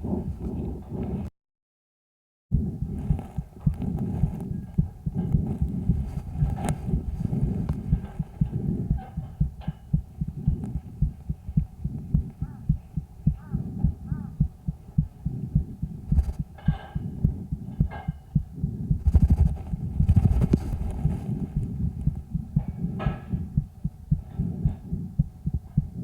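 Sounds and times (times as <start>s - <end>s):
breath noise: 0.0s - 1.3s, 2.6s - 26.0s
scratchy noises: 0.0s - 1.3s, 2.6s - 26.0s
low thuds through stethoscope: 2.6s - 26.0s.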